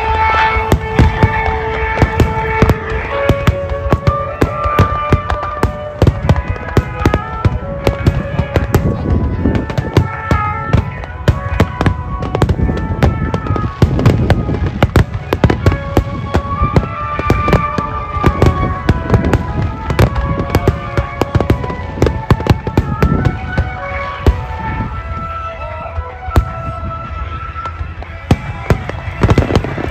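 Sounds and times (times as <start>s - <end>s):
fireworks bangs: 0.0s - 29.9s.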